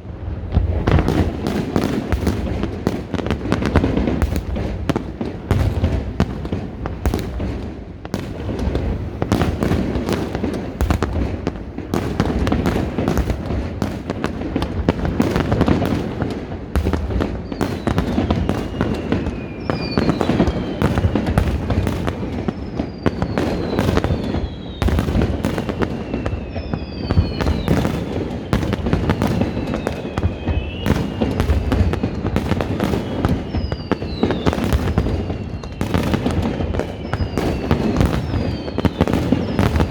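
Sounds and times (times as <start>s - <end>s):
firework bursts and bangs: 0.0s - 39.9s
falling firework whistles: 0.4s - 39.9s.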